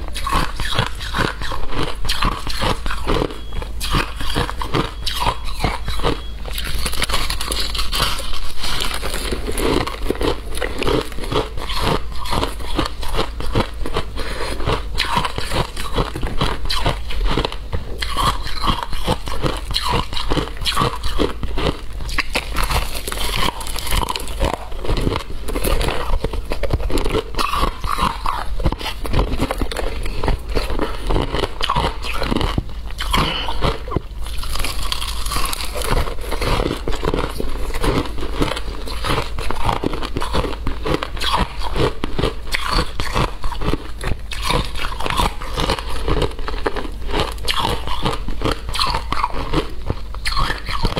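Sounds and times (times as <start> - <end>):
crunching shaved ice: 0.0 - 50.9.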